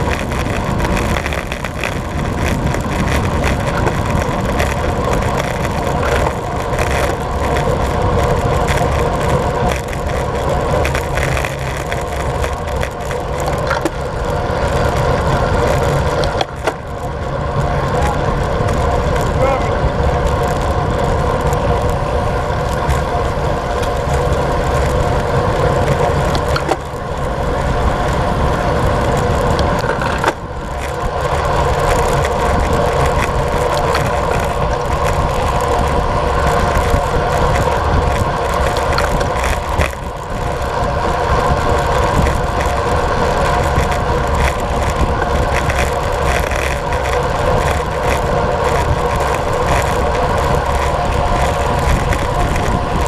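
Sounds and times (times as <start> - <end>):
bicycle tyres on asphalt: 0.0 - 53.0
wind on microphone: 0.0 - 53.0.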